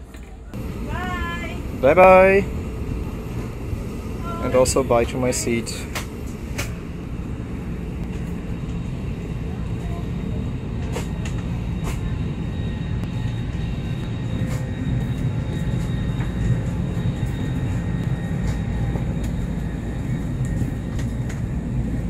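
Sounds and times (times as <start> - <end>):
aircraft cabin hum: 0.5 - 22.0.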